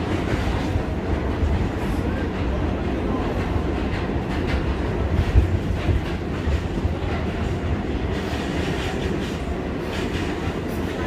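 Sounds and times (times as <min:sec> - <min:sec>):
subway car rumbling in tunnel: 0:00.0 - 0:11.0.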